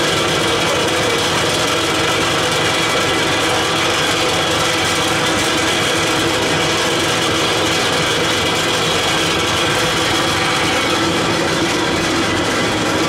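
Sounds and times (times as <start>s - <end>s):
burner flame roaring: 0.0s - 13.0s.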